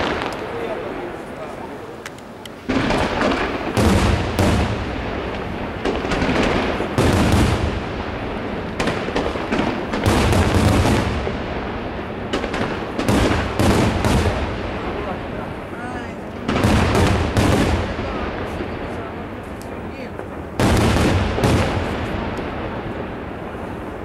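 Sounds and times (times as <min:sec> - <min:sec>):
firework shells bursting: 0:00.0 - 0:24.0.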